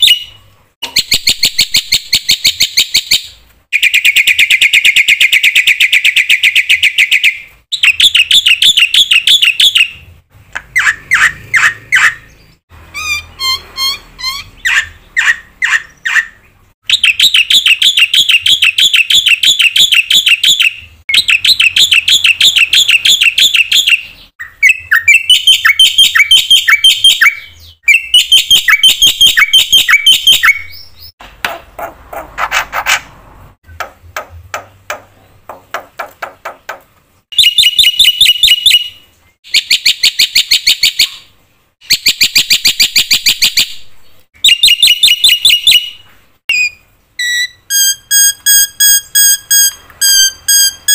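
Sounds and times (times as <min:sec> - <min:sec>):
bird singing repeated phrases: 0:00.0 - 0:31.2, 0:33.6 - 0:50.9.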